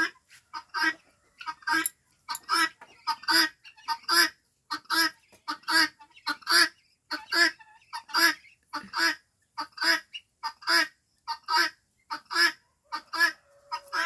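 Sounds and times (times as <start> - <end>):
guineafowl calling: 0.0 - 14.0.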